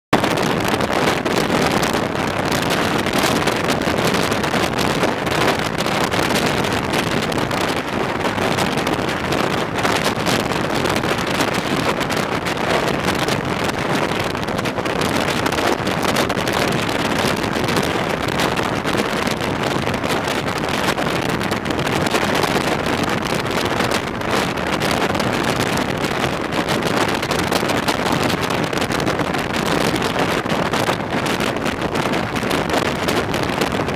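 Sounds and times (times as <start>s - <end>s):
wind rushing buffeting microphone: 0.2s - 33.9s.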